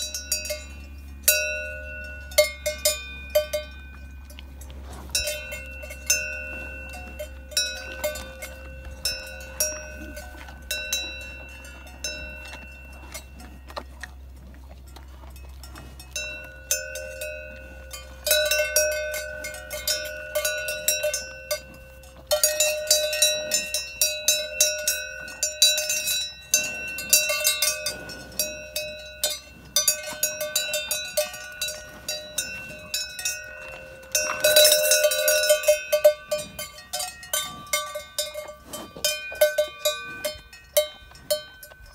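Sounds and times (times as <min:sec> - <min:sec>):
cowbell clanking: 0:00.0 - 0:41.9.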